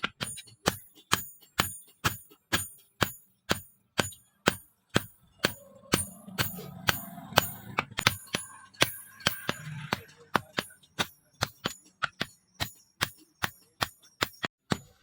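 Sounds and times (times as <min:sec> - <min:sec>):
hammer striking steel on anvil: 0:00.0 - 0:15.0.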